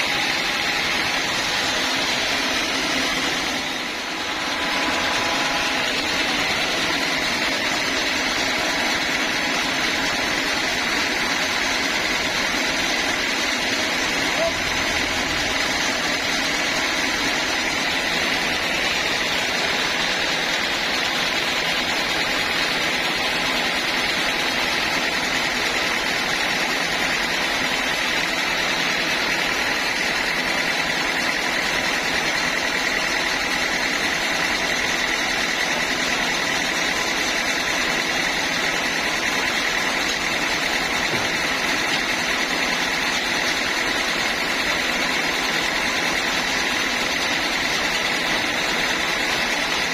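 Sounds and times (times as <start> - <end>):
sawmill saw running: 0.0 - 49.9.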